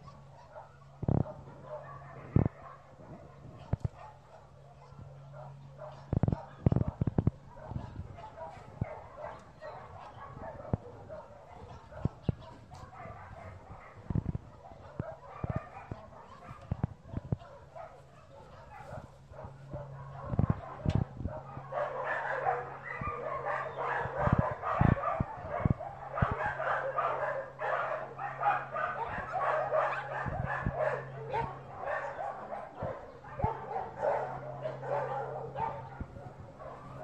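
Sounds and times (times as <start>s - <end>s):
dogs barking: 0.0s - 37.0s.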